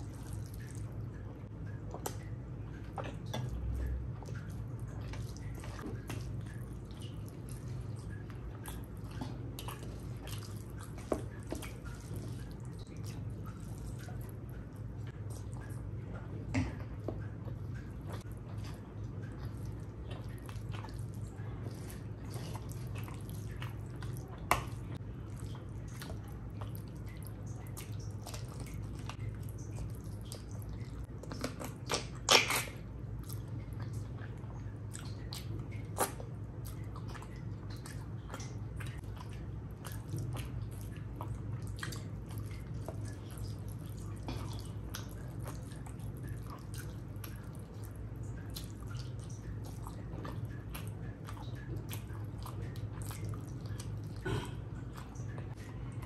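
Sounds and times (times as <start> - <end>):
steady low hum: 0.0 - 56.0
wet chewing and mouth clicks: 0.0 - 56.0.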